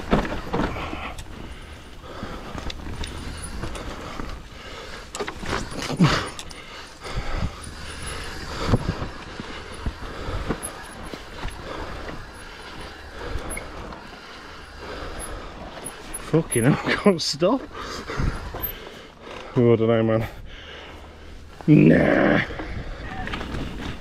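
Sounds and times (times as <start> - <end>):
bike chain and frame rattle: 0.0 - 24.0
tyres rumbling over dirt: 0.0 - 24.0.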